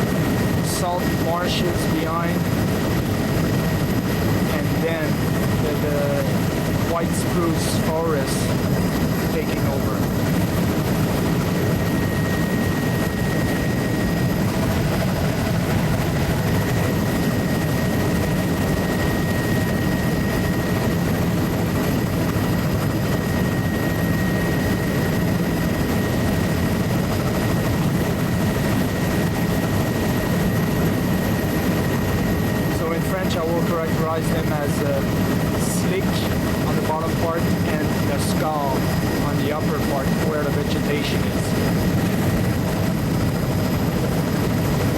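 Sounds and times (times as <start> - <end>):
aircraft engine drone: 0.0 - 44.9
thin steady whine: 0.0 - 44.9.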